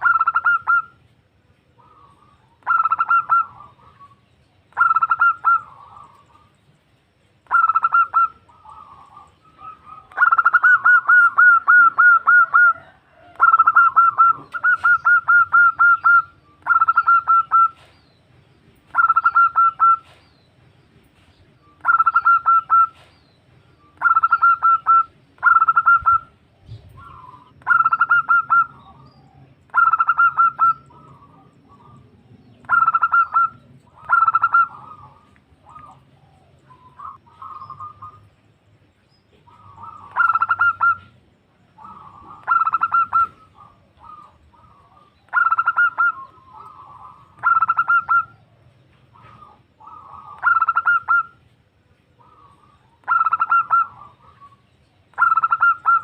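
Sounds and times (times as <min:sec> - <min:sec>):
dove calling in fast repeated notes: 0:00.0 - 0:20.4, 0:21.7 - 0:38.7, 0:39.3 - 0:56.0.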